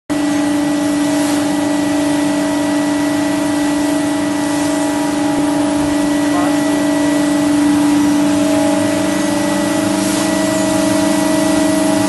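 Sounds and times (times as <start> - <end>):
spice grinder motor humming: 0.2 - 12.0.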